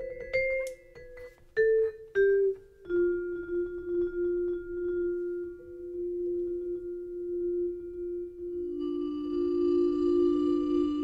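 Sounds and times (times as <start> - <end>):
vibraphone notes: 0.0 - 11.0.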